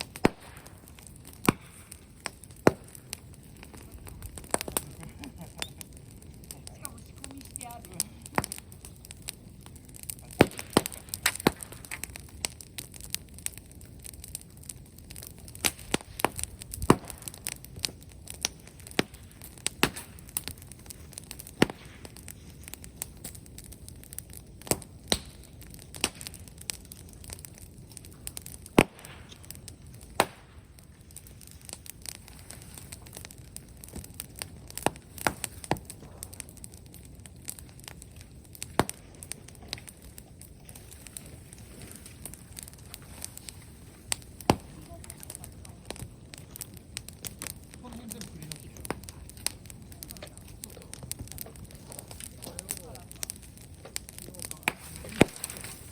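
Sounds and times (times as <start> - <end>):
bonfire crackling and popping: 0.0 - 55.9
low hiss of burning: 0.0 - 55.9.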